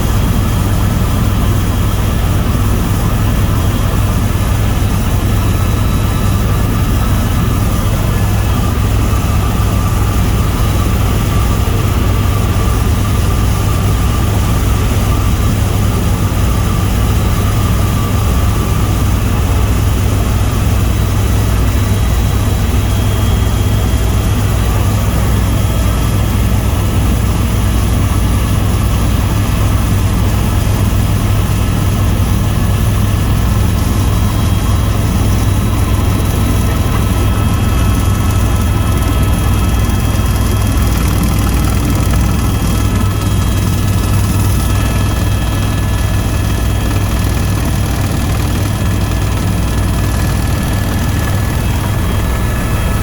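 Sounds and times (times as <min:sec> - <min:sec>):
helicopter rotor drone: 0:00.0 - 0:53.0.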